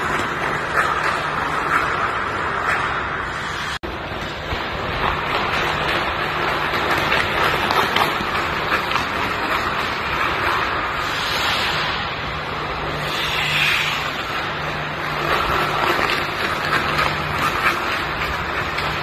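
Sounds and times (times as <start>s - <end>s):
skates scraping on ice: 0.0s - 19.0s.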